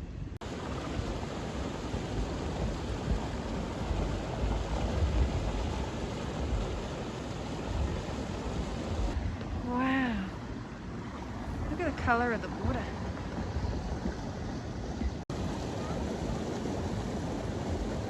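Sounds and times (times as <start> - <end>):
wind buffeting microphone: 0.0 - 18.0
creek water rushing: 0.4 - 18.0.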